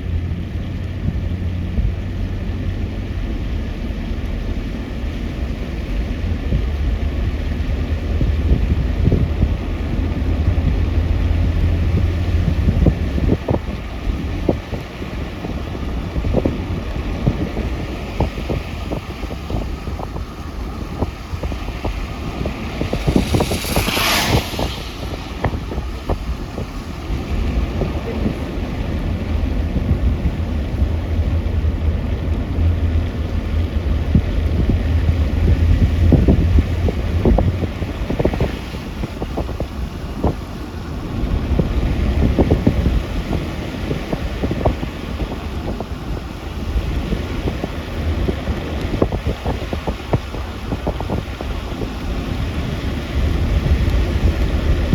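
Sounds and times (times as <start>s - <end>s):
rain ticks and taps: 0.0s - 24.0s, 25.3s - 46.1s, 46.8s - 54.9s
car rolling on wet ground: 0.0s - 54.9s
wind buffeting microphone: 0.0s - 54.9s.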